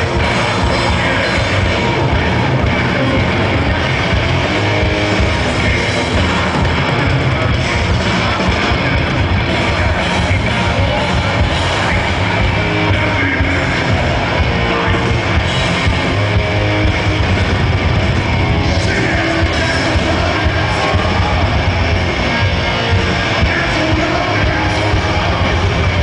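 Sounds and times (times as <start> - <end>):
heavy metal band playing: 0.0 - 26.0.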